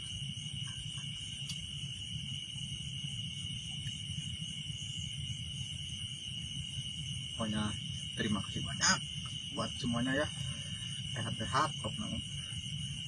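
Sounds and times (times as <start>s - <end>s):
crickets trilling: 0.0s - 13.0s
low steady rumble: 0.0s - 13.0s.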